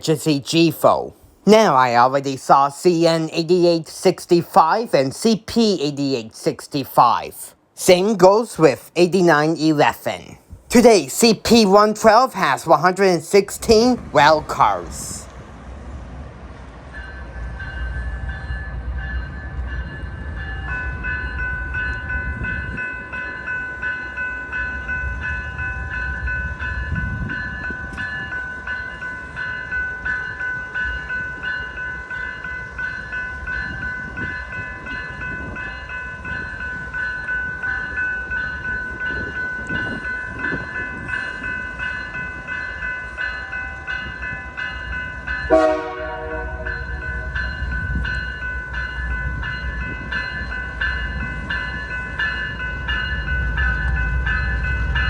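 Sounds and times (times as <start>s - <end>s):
railway crossing bells ringing: 0.0s - 55.0s
train rumbling on tracks: 0.0s - 55.0s.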